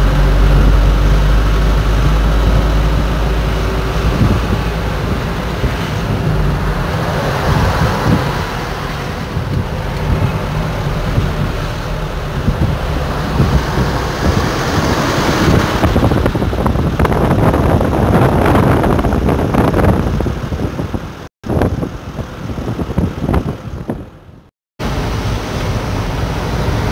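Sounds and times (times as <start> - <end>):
trucks driving past: 0.0 - 26.9
wind buffeting microphone: 0.0 - 26.9.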